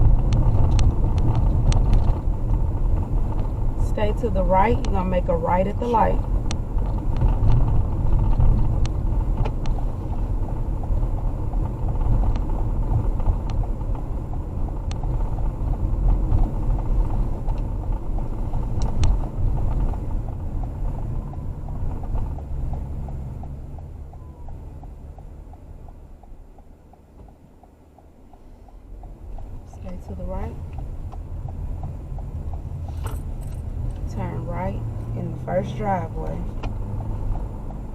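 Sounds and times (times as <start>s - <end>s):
road and engine rumble: 0.0s - 37.9s
turn signal ticking: 0.0s - 37.9s.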